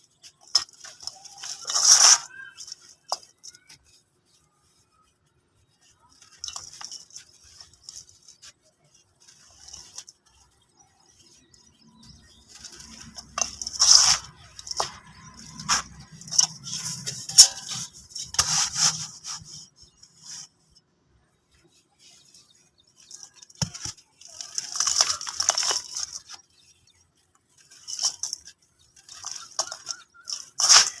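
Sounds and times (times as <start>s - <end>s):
dry material crackling: 0.0s - 31.0s.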